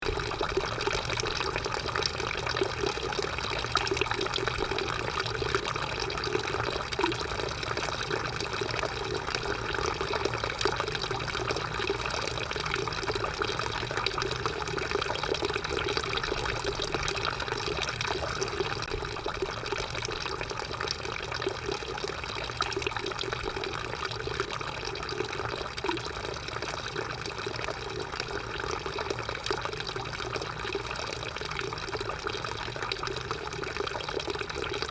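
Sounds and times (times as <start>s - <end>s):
drinking fountain water running: 0.0s - 34.9s.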